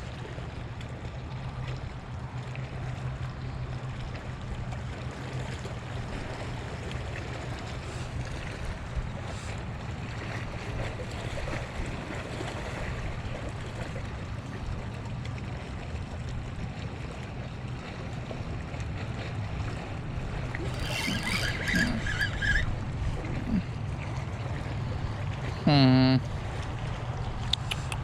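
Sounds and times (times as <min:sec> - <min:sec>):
water washing at shoreline: 0:00.0 - 0:28.0
wind: 0:00.0 - 0:28.0.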